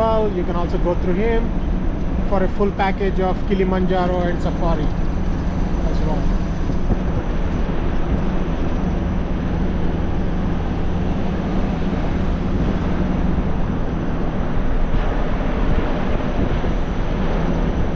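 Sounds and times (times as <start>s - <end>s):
road noise: 0.0s - 17.9s
vehicle engine humming: 0.0s - 17.9s.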